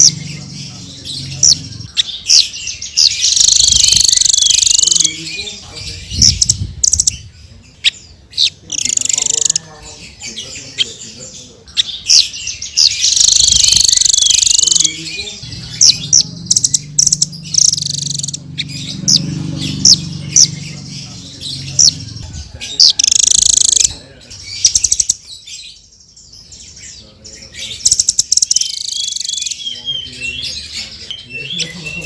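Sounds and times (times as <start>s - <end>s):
parrots buzzy trills: 0.0s - 5.6s, 7.8s - 11.2s, 11.8s - 26.8s, 27.6s - 30.8s
parrots chirping shrilly: 0.0s - 26.9s, 27.5s - 32.0s.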